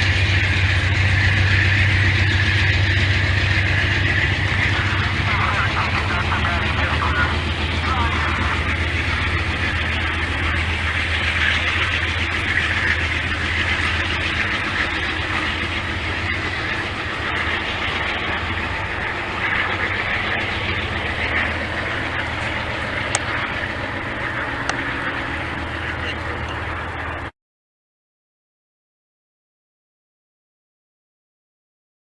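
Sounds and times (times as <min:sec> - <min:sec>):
train rumbling along track: 0:00.0 - 0:27.3.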